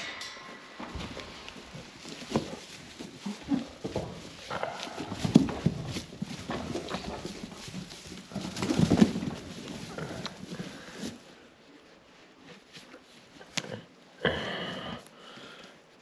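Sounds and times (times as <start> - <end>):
goat hooves scuffling and clattering: 0.0 - 14.2
rustling: 0.0 - 16.0.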